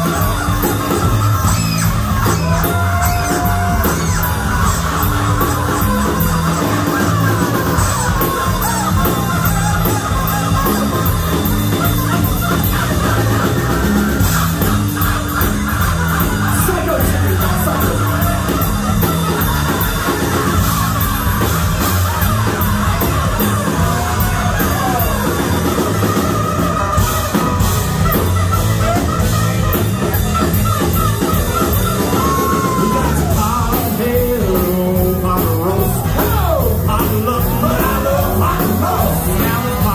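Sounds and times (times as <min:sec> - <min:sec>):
bass guitar: 0:00.0 - 0:39.9
drums: 0:00.0 - 0:39.9
electric guitars: 0:00.0 - 0:39.9
saxophone: 0:00.0 - 0:39.9.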